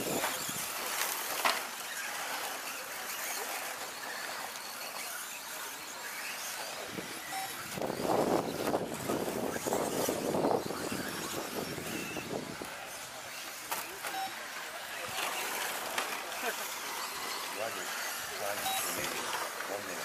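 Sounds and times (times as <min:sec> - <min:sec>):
rc truck motors and tyres hissing: 0:00.0 - 0:20.0.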